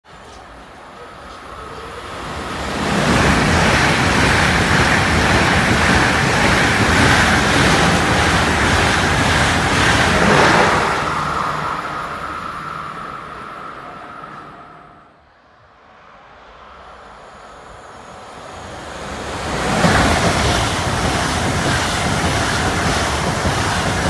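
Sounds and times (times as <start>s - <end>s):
high-speed train passing: 0.1s - 24.0s.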